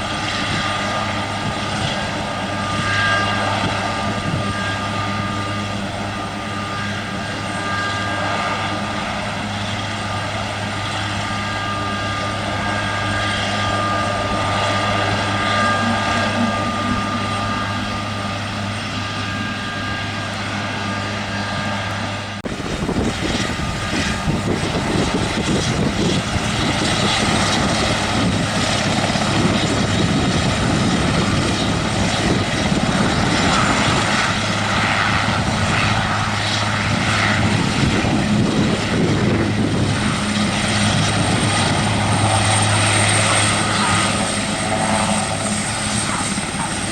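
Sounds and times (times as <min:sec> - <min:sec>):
helicopter turbine whine: 0:00.0 - 0:46.9.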